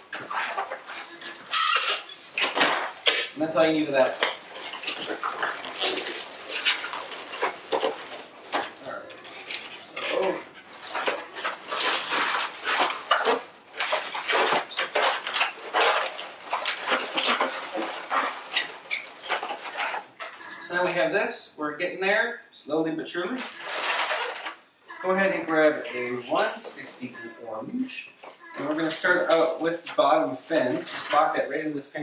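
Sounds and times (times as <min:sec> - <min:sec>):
balloons squeaking and rubbing: 0:00.0 - 0:21.0, 0:23.4 - 0:31.5.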